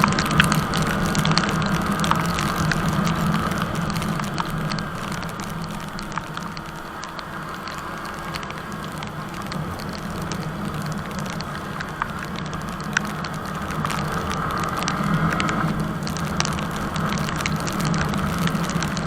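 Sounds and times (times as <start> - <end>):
crackling hissing noise: 0.0 - 19.0
motorcycle engine drone: 0.0 - 19.0.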